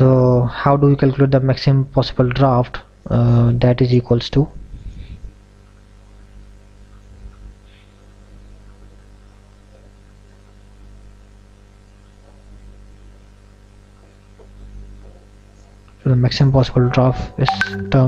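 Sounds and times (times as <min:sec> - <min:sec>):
low mains hum: 0:00.0 - 0:18.0.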